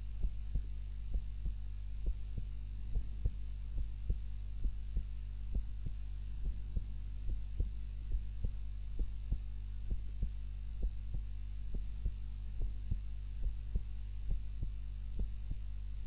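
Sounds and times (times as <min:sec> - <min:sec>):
heart beating: 0:00.0 - 0:16.0
steady low hum: 0:00.0 - 0:16.0.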